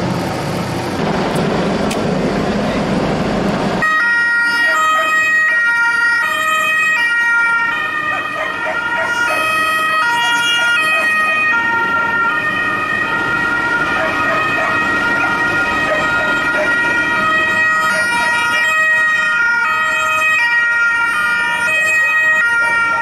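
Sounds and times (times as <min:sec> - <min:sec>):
street traffic: 0:00.0 - 0:23.0
police sirens wailing: 0:01.0 - 0:23.0
steady high siren tone: 0:03.8 - 0:23.0.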